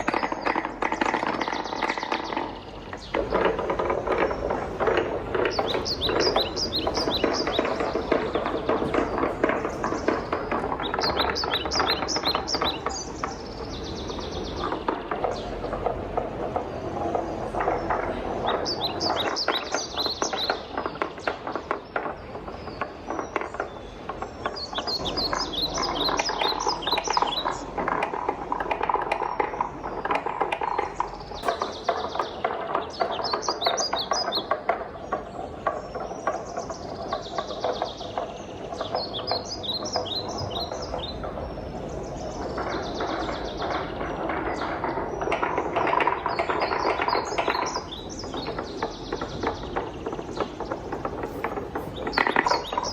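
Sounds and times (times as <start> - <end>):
wooden balls rolling on marble run: 0.0 - 52.9
wooden clicks and knocks: 0.0 - 52.9.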